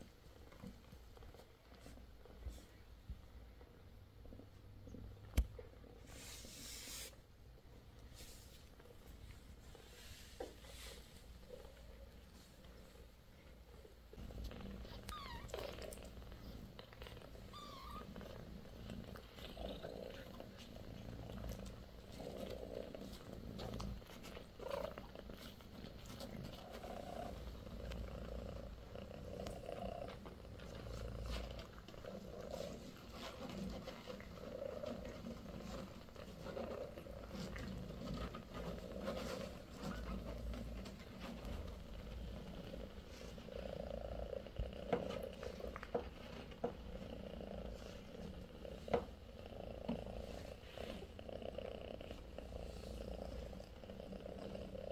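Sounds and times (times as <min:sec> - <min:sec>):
cats purring: 0:00.0 - 0:54.9.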